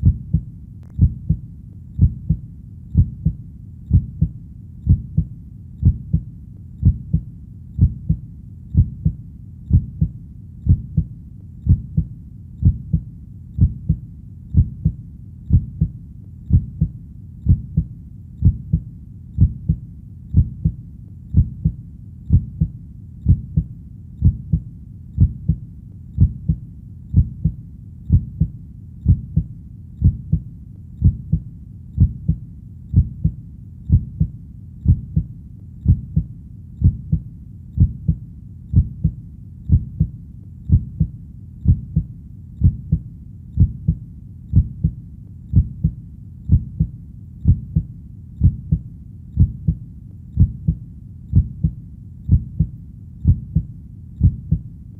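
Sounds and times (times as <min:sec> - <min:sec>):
heartbeat thumps: 0:00.0 - 0:25.6, 0:26.2 - 0:54.7.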